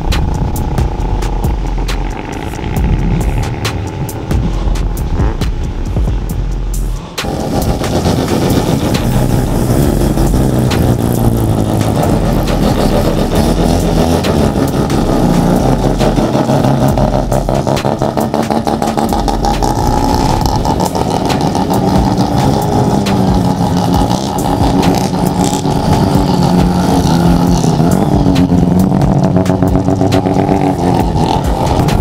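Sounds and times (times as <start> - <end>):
rotary engine pulsing exhaust: 0.0 - 32.0.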